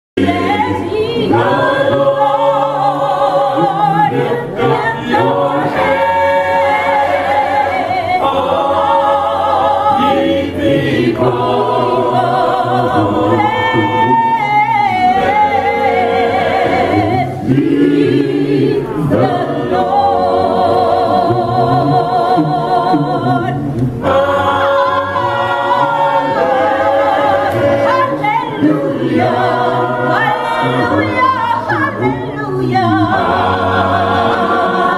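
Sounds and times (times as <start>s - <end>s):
gospel choir singing a cappella: 0.2s - 34.9s.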